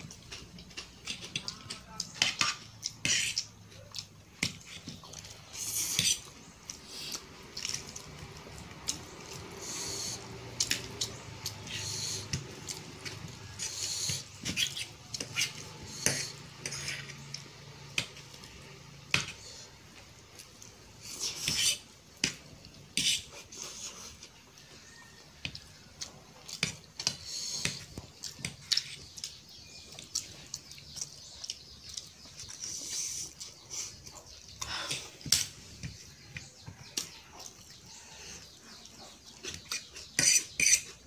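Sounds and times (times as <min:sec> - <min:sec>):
slurping and chewing: 0:00.0 - 0:41.0.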